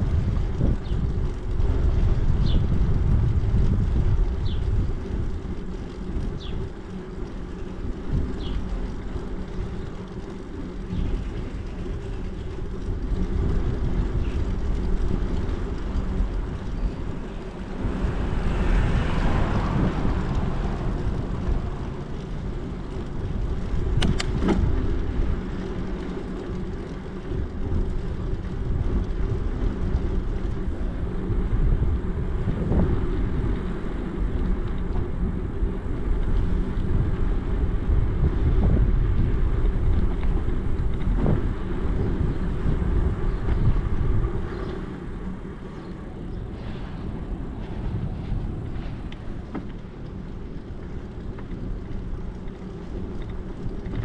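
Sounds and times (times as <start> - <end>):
bicycle tyre rumble: 0.0 - 54.0
wind buffeting microphone: 0.0 - 54.0.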